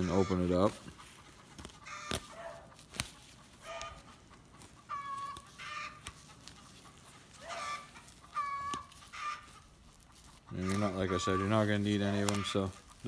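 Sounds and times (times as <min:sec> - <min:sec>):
chickens clucking and squawking: 0:00.0 - 0:13.0.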